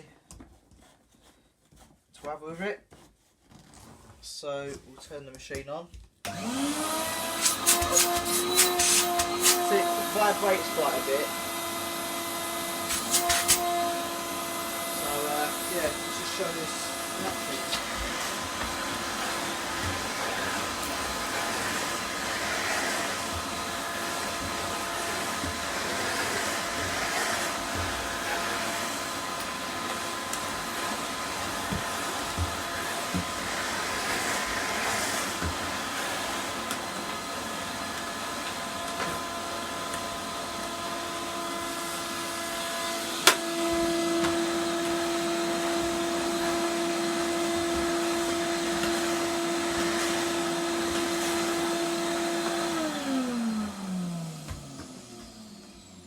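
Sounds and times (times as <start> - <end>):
vacuum cleaner whining: 6.2 - 56.0.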